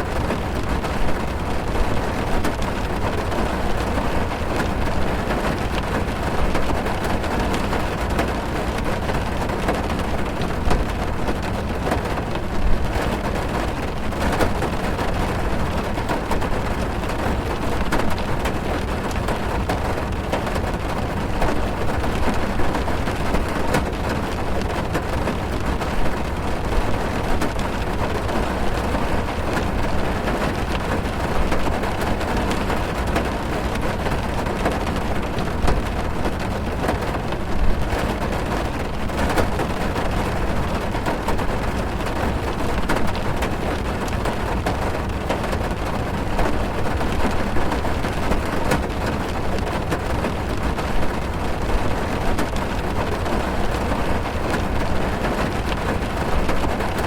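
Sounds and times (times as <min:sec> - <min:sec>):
heavy rain drumming on car roof: 0:00.0 - 0:57.0.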